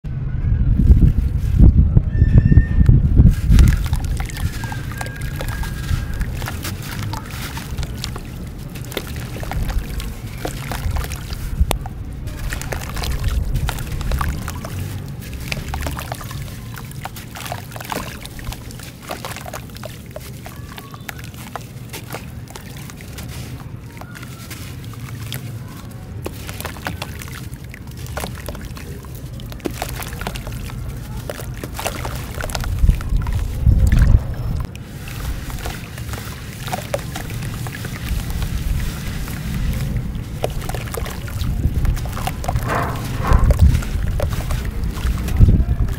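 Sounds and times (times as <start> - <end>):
cement lumps crumbling by hand: 3.2 - 45.9
grains pouring into water: 3.4 - 33.6, 34.8 - 45.5.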